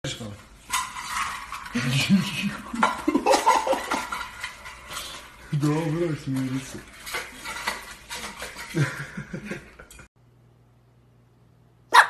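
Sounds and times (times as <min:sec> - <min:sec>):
metal food bowl clinking: 0:00.1 - 0:10.1.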